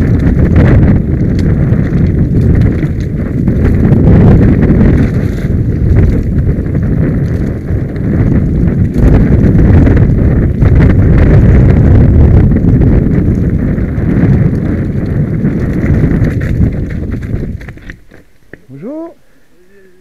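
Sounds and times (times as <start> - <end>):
bike tyres rumbling over stones: 0.0 - 19.1
wind buffeting microphone: 0.0 - 19.9.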